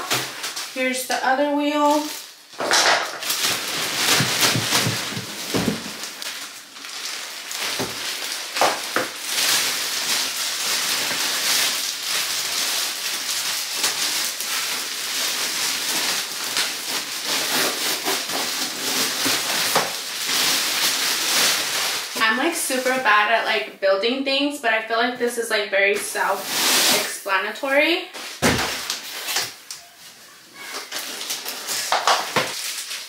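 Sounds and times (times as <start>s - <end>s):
plastic bag crinkling: 0.0s - 23.4s, 26.0s - 33.0s.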